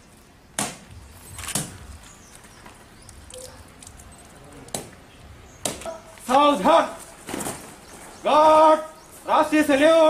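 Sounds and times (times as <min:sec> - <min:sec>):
low outdoor background: 0:00.0 - 0:10.0.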